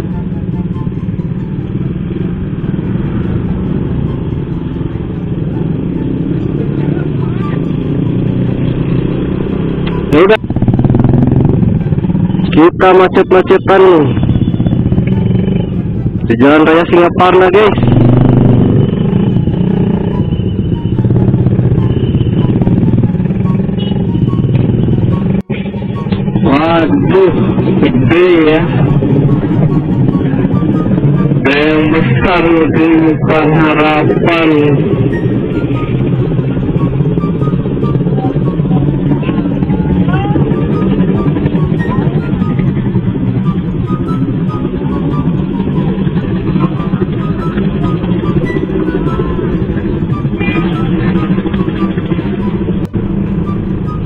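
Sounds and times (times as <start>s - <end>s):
motorcycle engine running: 0.0s - 54.0s
rumble of traffic engines: 0.0s - 54.0s.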